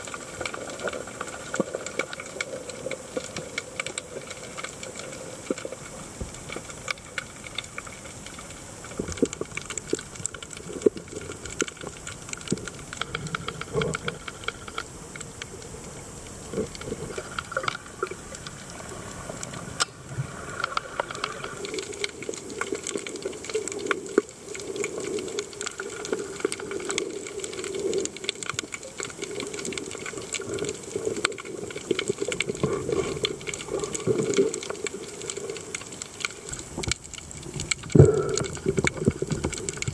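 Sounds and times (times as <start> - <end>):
low murmur of water movement: 0.0 - 39.9
sharp crackling clicks: 0.0 - 39.9
underwater watery hiss: 0.0 - 39.9.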